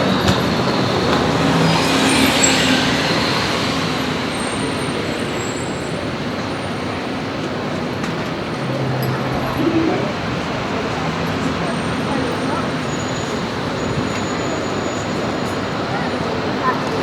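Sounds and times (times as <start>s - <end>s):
passing traffic engine hum: 0.0s - 17.0s.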